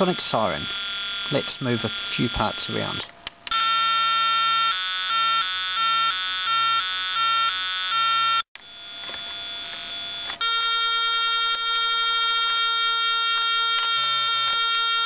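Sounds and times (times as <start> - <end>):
electronic two-tone siren: 0.0 - 15.0.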